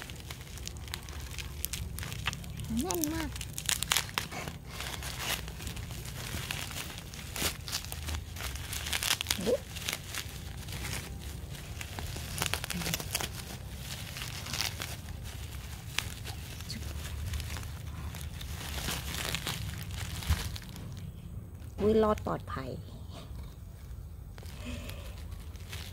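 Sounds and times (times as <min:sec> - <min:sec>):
bubble wrap crinkling: 0:00.0 - 0:22.4, 0:23.7 - 0:25.9.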